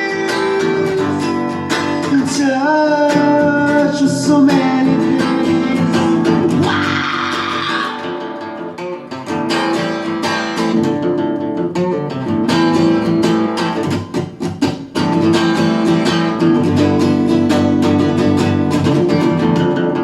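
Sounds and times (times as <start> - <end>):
guitar strumming: 0.0 - 20.0.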